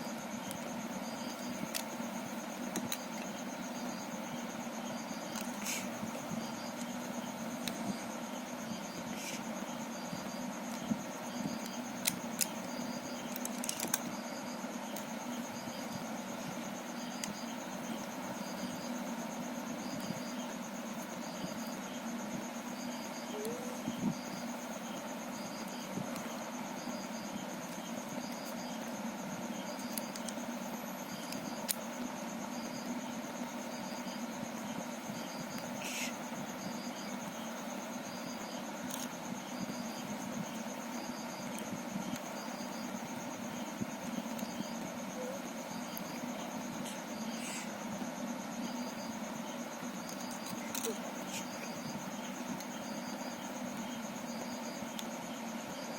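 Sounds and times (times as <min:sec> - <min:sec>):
cricket chirping: 0:00.0 - 0:55.9
steady background hum: 0:00.0 - 0:55.9.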